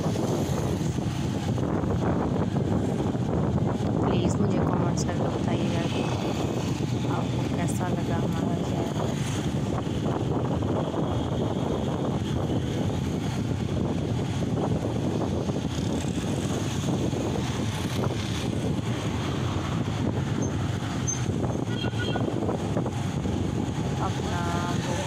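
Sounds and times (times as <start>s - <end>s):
wind noise: 0.0s - 25.0s.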